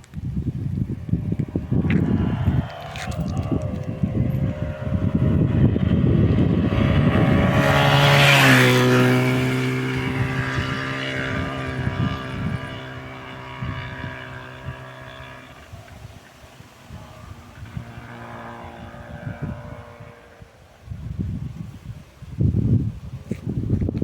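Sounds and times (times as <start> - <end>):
motorcycle engine running: 0.1 - 21.8.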